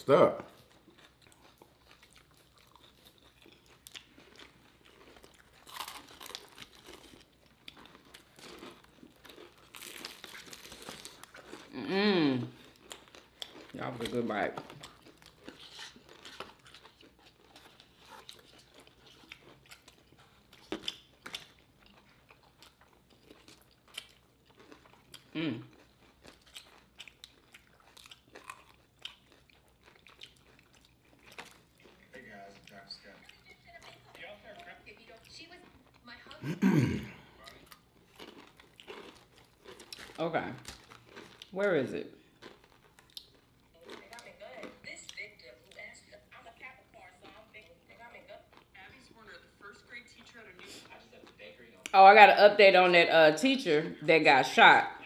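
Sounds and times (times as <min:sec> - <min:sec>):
crunchy chewing of fried chicken: 0:00.5 - 0:36.4, 0:37.2 - 0:51.9.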